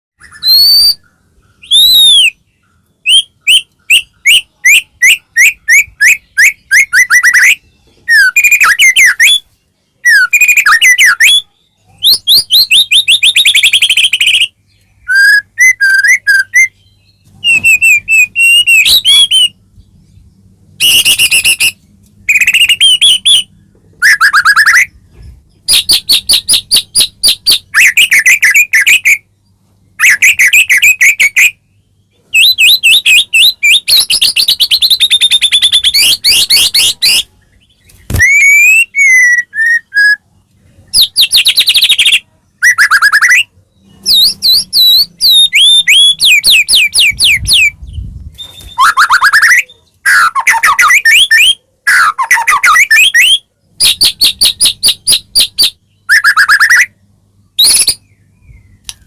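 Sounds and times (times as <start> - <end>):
songbird singing trills and whistles: 0.2 - 59.0.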